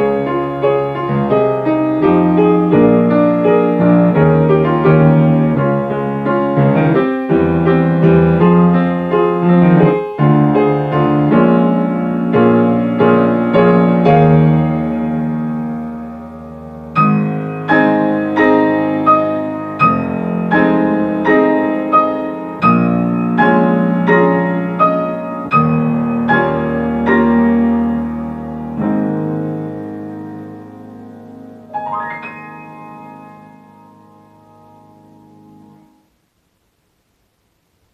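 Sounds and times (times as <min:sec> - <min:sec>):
piano playing: 0:00.0 - 0:36.1.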